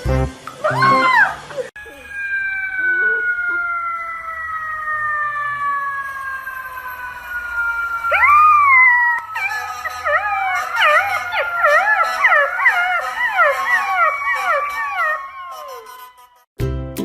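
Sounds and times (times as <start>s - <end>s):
dog howling: 0.7s - 16.4s.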